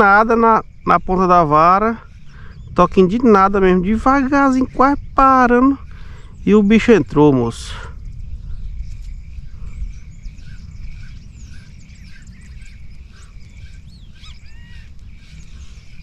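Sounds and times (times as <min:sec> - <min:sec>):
birds chirping and calling: 0:00.0 - 0:16.0
steady low rumble: 0:00.0 - 0:16.0.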